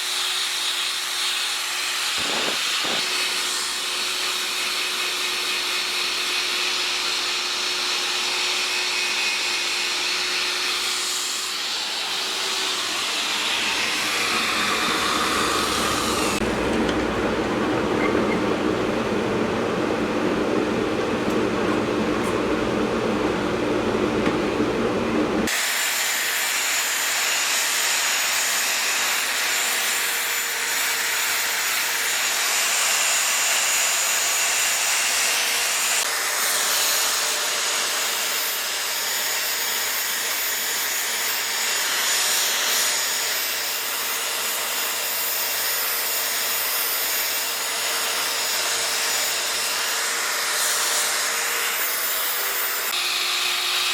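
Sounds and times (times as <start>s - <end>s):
power tool working wood: 0.0s - 20.0s, 24.0s - 53.9s.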